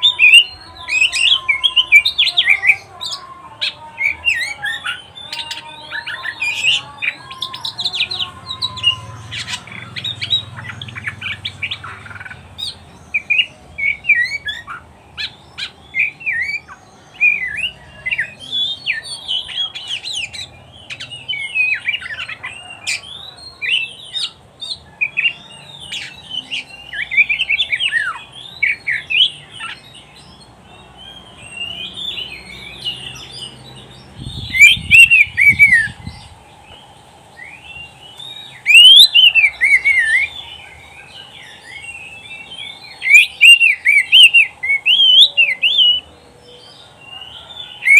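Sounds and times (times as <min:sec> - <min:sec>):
songbird singing varied song: 0:00.0 - 0:47.9.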